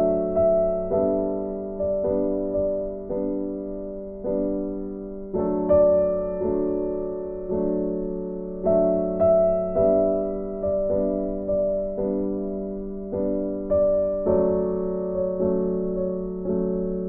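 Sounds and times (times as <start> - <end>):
gentle keyboard chords: 0.0 - 17.0.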